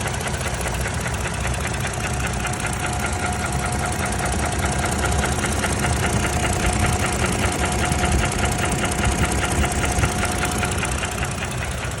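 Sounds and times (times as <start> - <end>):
car engine running: 0.0 - 12.0
rapid engine knock: 0.0 - 12.0.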